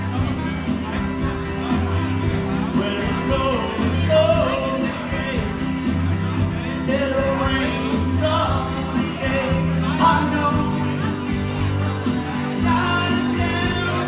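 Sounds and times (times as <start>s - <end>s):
band playing rock music: 0.0s - 14.0s
person singing: 1.6s - 14.0s.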